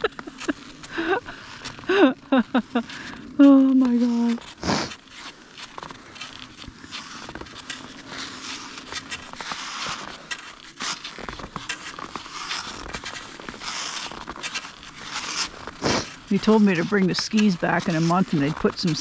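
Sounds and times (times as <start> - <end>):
skis sliding over snow: 0.0 - 19.0.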